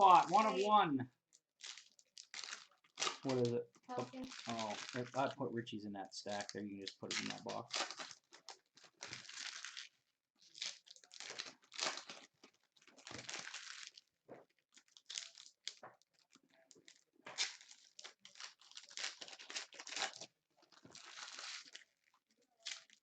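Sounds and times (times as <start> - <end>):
wrappers crinkling and tearing: 0.0 - 0.7, 1.3 - 5.3, 6.3 - 23.0.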